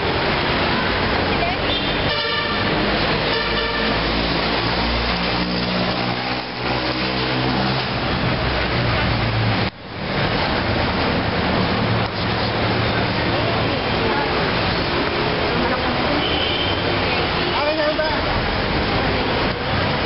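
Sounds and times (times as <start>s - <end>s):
loud road noise: 0.0s - 20.0s.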